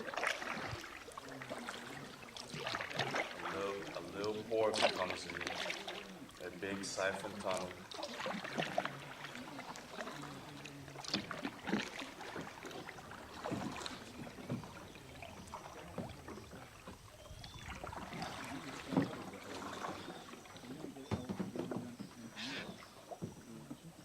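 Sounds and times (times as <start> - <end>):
kayak paddles splashing in water: 0.0 - 24.0.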